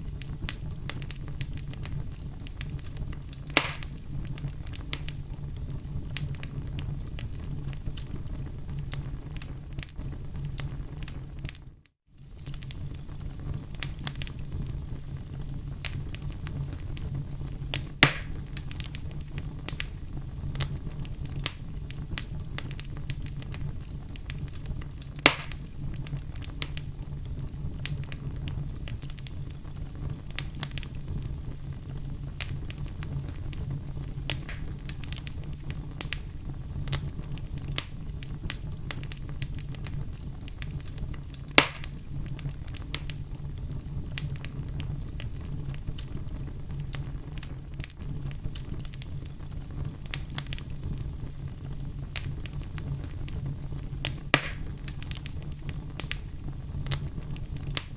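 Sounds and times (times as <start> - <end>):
fire rumbling and crackling: 0.0 - 57.9
loud fire pops: 0.0 - 57.9.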